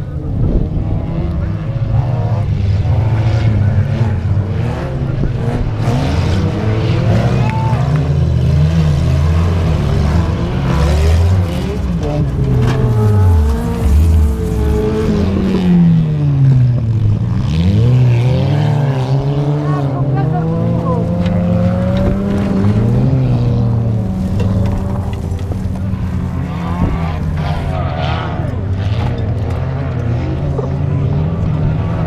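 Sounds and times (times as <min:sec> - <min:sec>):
car engines racing: 0:00.0 - 0:32.0.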